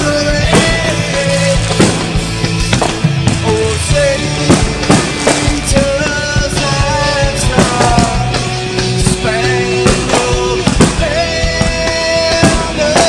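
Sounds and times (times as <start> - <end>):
rock song with vocals: 0.0 - 13.0.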